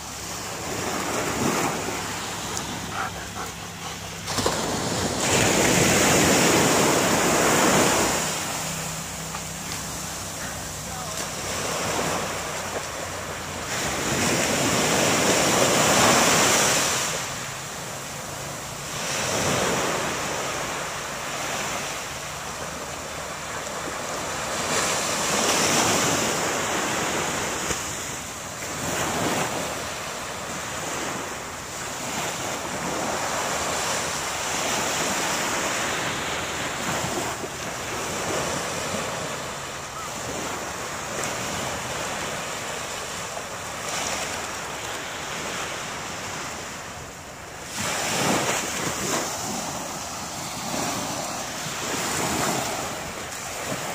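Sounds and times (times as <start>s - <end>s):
small waves breaking on sand: 0.0s - 53.9s.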